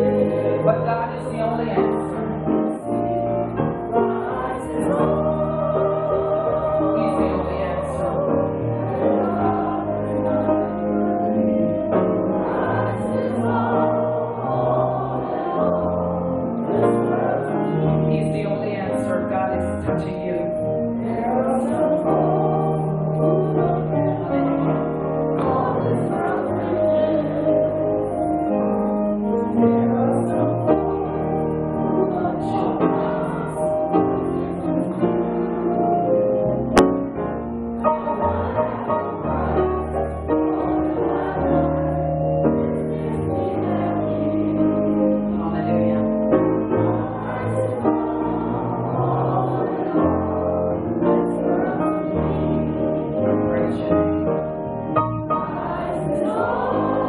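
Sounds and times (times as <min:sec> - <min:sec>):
choir singing a hymn: 0:00.0 - 0:57.0
low sustained notes: 0:00.0 - 0:57.0
slow gospel keyboard chords: 0:00.0 - 0:57.0.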